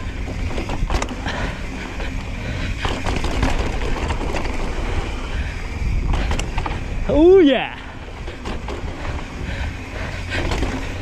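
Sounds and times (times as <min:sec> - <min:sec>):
bike tyres rattling over dirt: 0:00.0 - 0:11.0.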